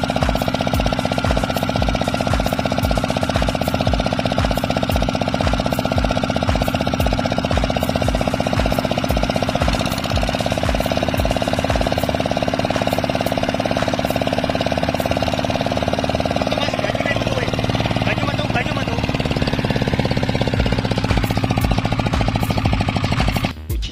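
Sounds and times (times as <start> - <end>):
diesel engine chugging: 0.0 - 23.9.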